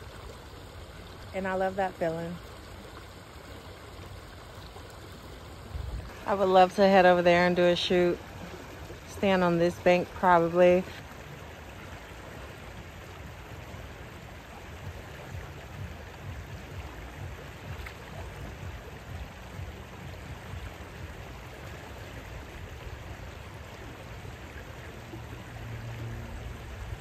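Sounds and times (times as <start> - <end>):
stream flowing over stones: 0.0 - 27.0.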